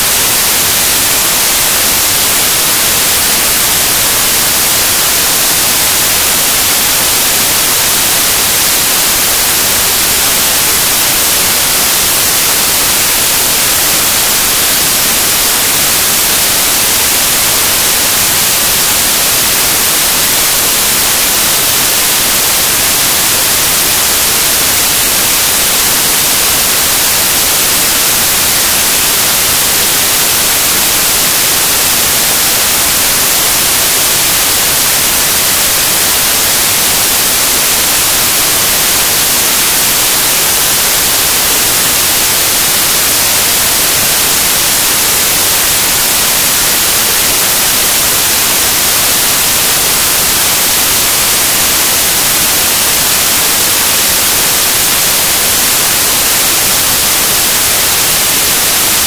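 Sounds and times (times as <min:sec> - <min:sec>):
loud static hiss: 0:00.0 - 0:59.0.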